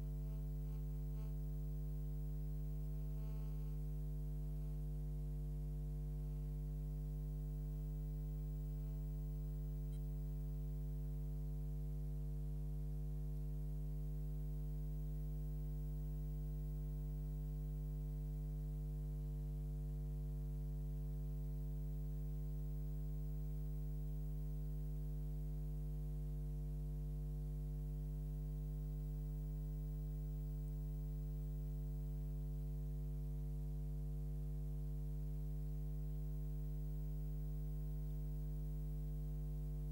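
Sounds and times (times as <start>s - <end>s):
low electrical mains hum: 0.0s - 39.9s.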